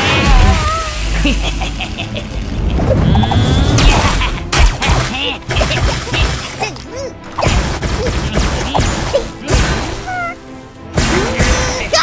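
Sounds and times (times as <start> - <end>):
soundtrack music: 0.0 - 12.0.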